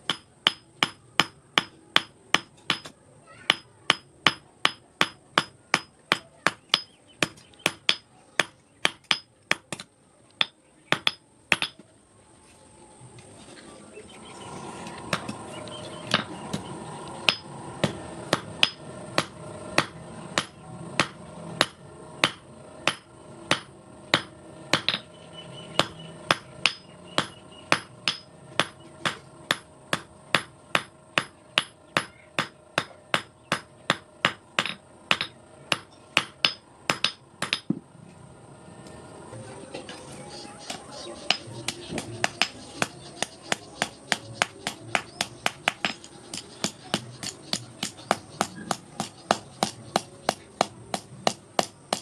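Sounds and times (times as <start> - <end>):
hammer striking steel on anvil: 0.0 - 2.9, 3.5 - 9.8, 10.4 - 11.8, 17.3 - 25.1, 25.8 - 37.8, 40.7 - 52.0
steady hum: 3.8 - 52.0.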